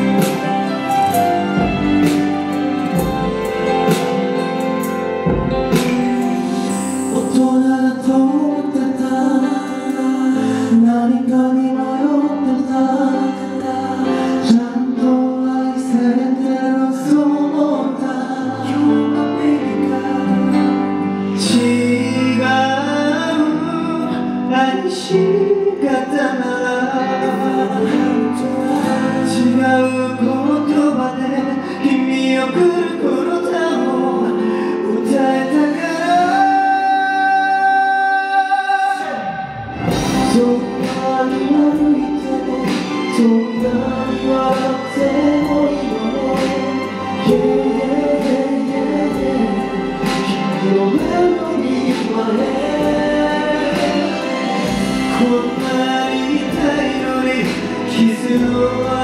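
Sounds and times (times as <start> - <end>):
instrumental accompaniment: 0.0 - 59.0
man singing into microphone: 6.6 - 59.0.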